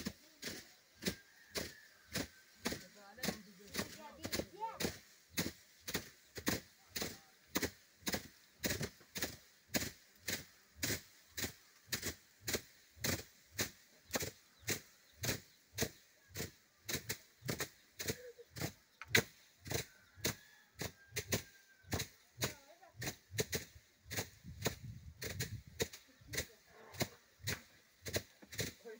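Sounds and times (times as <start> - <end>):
sticks thwacking dry stalks: 0.0 - 28.9.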